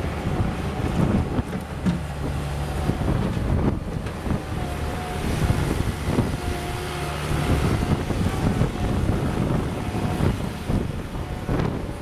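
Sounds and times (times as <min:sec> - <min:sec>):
diesel engine running: 0:00.0 - 0:12.0
wind buffeting microphone: 0:00.0 - 0:12.0.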